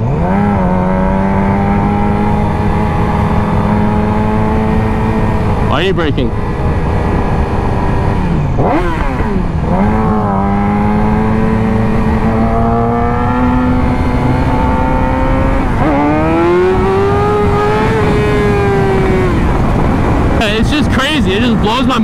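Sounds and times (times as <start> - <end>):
sportbike engine revving: 0.0 - 22.0.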